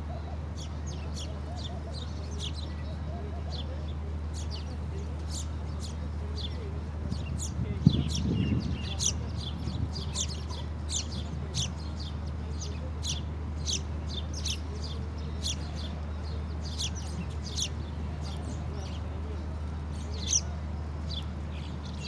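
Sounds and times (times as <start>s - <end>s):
small birds chirping: 0.1s - 22.0s.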